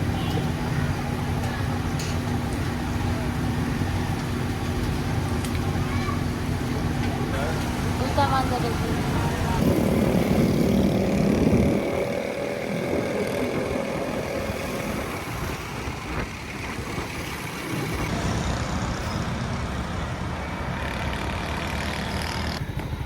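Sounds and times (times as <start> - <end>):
street traffic: 0.0 - 23.0.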